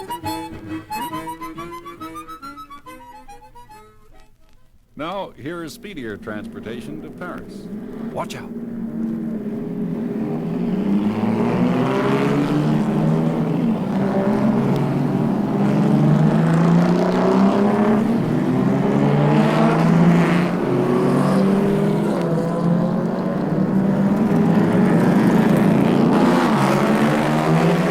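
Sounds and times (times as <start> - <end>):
racing car engines revving: 5.4 - 27.9.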